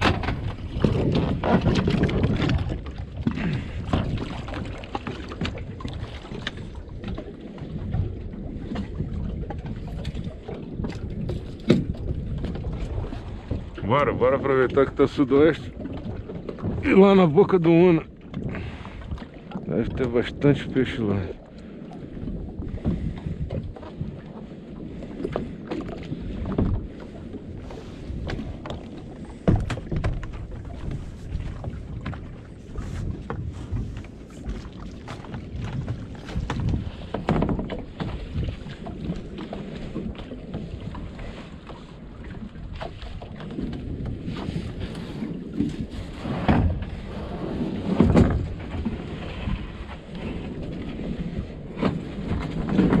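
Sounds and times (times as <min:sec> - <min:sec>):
knocks and thumps on boat: 0:00.0 - 0:53.0
wind rumble on microphone: 0:00.0 - 0:53.0.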